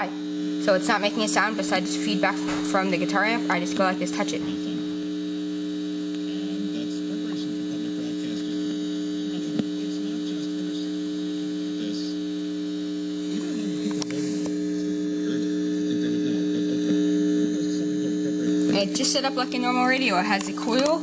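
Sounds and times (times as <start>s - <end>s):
guitar amplifier hum: 0.0s - 21.0s.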